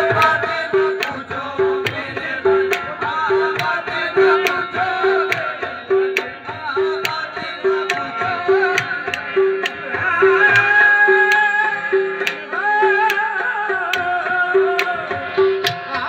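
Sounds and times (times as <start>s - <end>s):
tabla rhythm: 0.0s - 16.0s.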